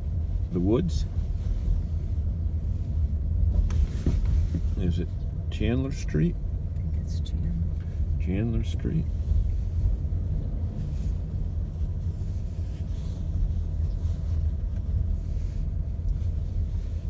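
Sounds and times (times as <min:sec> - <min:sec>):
car interior road and engine rumble: 0:00.0 - 0:17.0.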